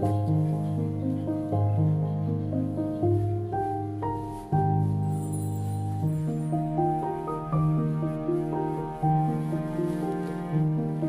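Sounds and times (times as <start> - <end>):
soft piano-like background music: 0.0 - 11.0.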